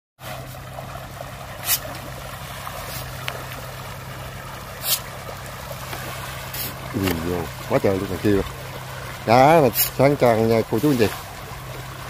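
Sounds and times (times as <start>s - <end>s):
fish splashing at surface: 0.2s - 12.0s
feed pellets hitting water: 1.4s - 12.0s.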